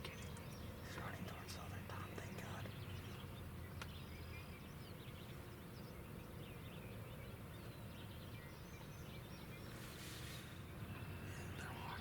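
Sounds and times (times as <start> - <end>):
low wind rumble: 0.0 - 12.0
small birds chirping: 0.0 - 12.0.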